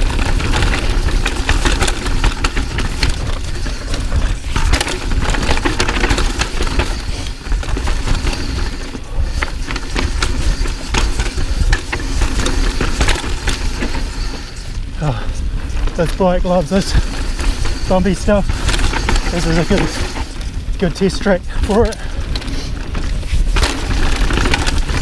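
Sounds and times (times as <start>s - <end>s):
chain and bike rattles: 0.0s - 25.0s
wind and tyre rumble: 0.0s - 25.0s.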